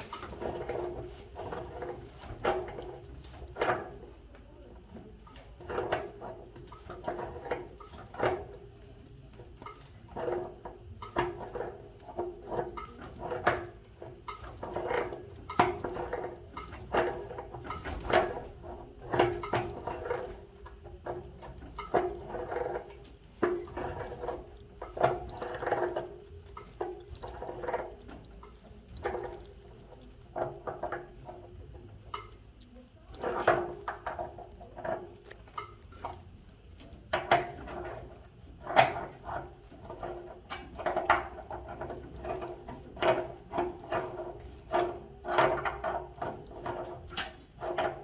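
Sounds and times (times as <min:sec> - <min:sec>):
hand tools clanking on metal pipes: 0:00.0 - 0:48.0.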